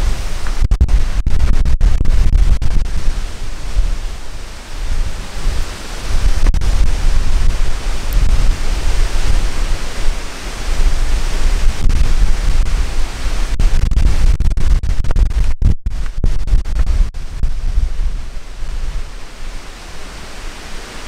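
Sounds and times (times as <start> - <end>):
gusty wind buffeting microphone: 0.0 - 21.0.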